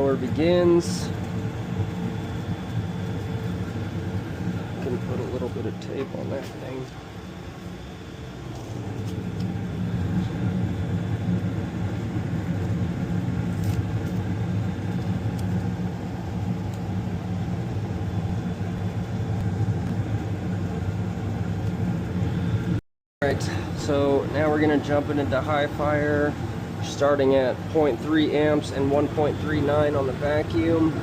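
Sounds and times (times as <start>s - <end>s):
furnace blower humming: 0.0s - 31.0s.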